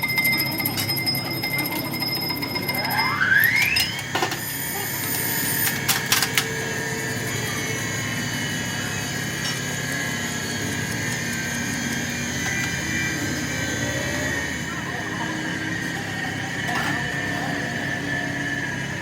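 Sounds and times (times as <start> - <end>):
machine motor humming and whining: 0.0 - 19.0.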